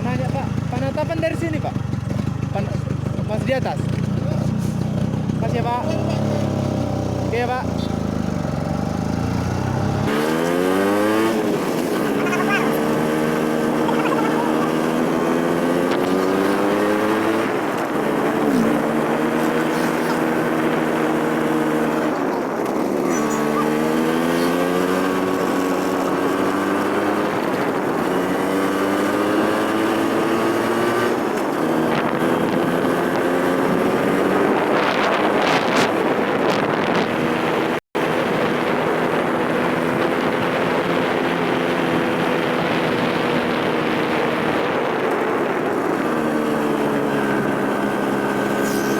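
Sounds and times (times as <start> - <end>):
scooter engine running: 0.0 - 48.9.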